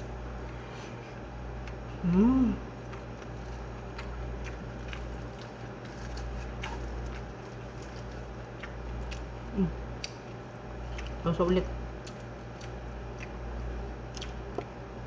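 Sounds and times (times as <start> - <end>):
steady low hum: 0.0 - 15.0
person chewing with mouth smacks: 0.4 - 14.8.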